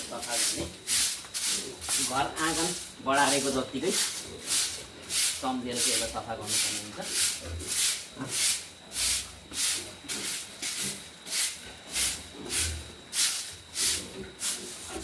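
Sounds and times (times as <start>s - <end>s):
broom sweeping floor: 0.0s - 15.0s.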